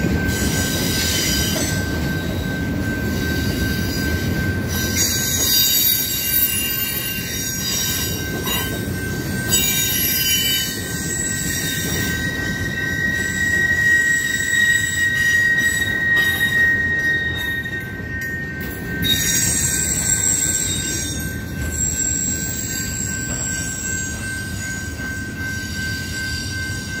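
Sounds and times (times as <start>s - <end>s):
freight train rumble: 0.0s - 27.0s
train wheels squealing: 0.0s - 27.0s.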